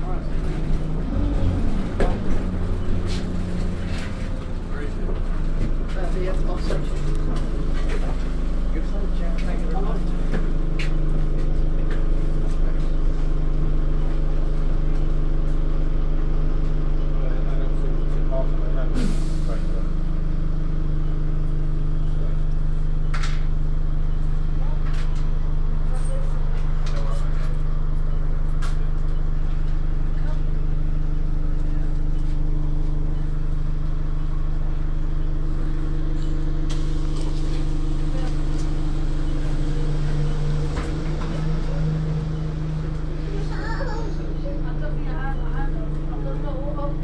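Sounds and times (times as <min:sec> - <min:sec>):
bus diesel engine idling: 0:00.0 - 0:47.0.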